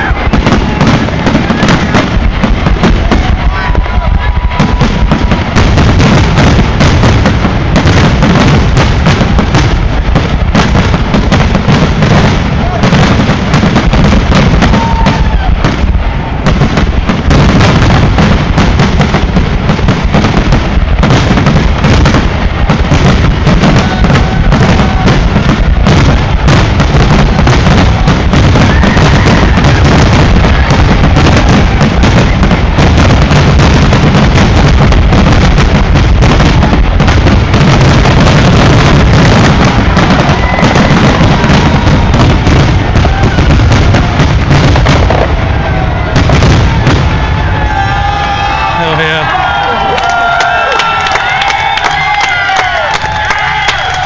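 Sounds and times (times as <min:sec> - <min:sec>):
fireworks bursts and booms: 0:00.0 - 0:54.0
fireworks crackling: 0:00.0 - 0:54.0.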